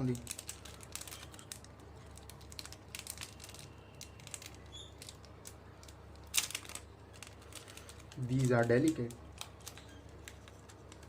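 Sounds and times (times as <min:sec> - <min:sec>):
plastic pieces clicking and rustling: 0:00.0 - 0:11.0.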